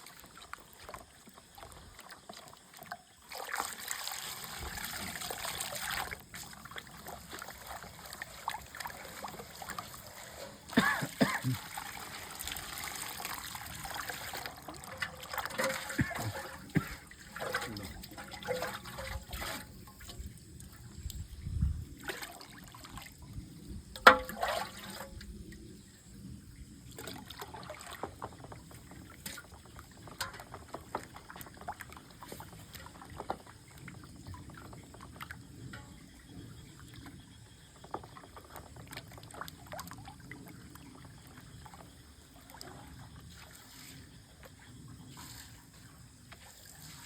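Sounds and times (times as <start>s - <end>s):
water splashing and trickling: 0.0s - 47.0s.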